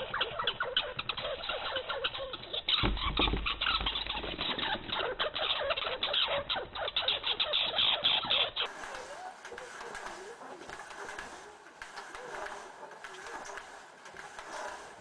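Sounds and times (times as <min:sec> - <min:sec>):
small animals squeaking and chirping: 0:00.0 - 0:15.0.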